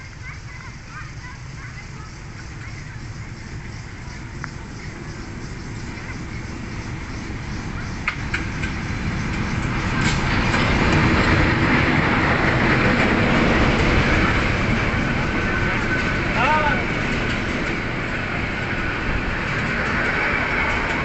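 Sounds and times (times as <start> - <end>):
diesel locomotive passing: 0.0 - 21.0
wheels on rails: 0.0 - 21.0.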